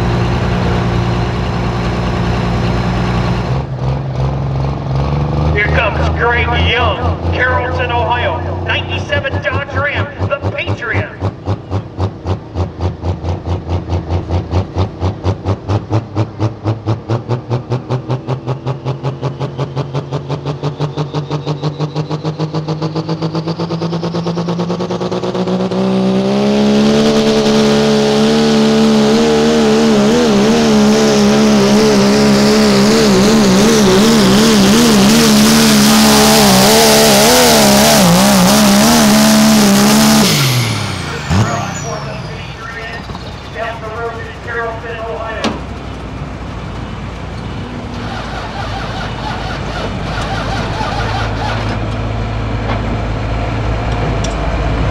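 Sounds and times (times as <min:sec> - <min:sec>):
pickup truck engine revving: 0:00.0 - 0:54.9.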